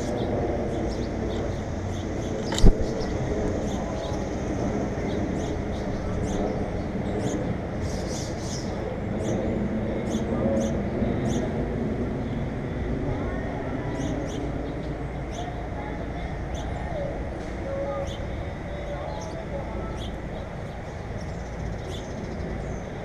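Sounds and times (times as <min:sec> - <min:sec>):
small birds chirping: 0:00.0 - 0:12.6, 0:13.2 - 0:23.0
steady low rumble: 0:00.0 - 0:23.0.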